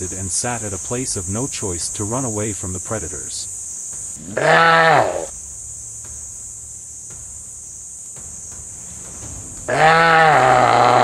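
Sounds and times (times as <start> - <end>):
forest insects chorus: 0.0 - 11.0.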